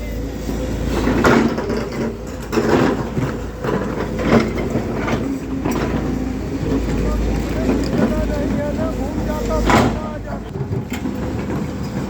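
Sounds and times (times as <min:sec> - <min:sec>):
excavator diesel engine running: 0:00.0 - 0:12.0
steel clanking against rock: 0:00.6 - 0:12.0.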